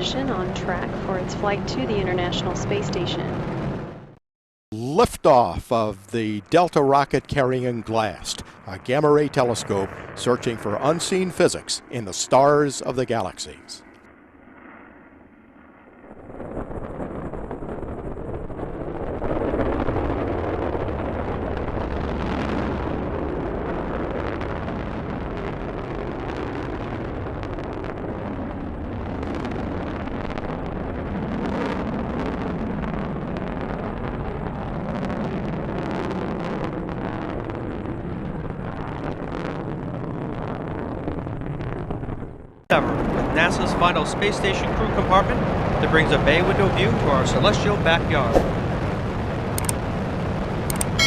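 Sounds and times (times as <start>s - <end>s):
rocket engines rumbling: 0.0s - 13.9s, 16.1s - 51.0s.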